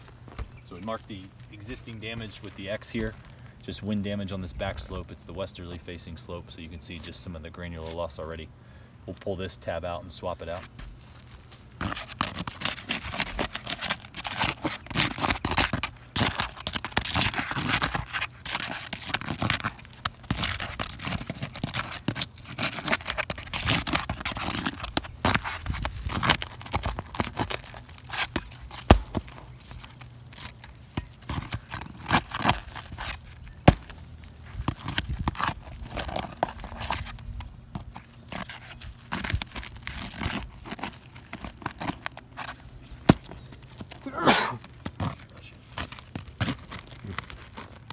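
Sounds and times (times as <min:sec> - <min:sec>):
shingles scraping and tearing: 0:00.0 - 0:04.9, 0:10.2 - 0:47.9.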